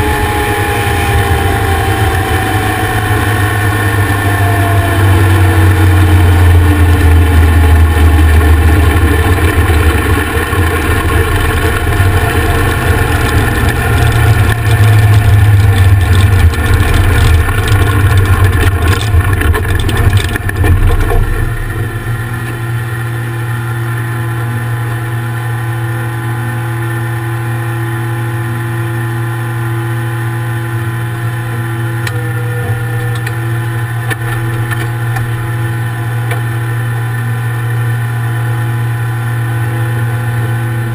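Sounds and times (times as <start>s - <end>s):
loud rough dragster engine: 0.0s - 40.9s.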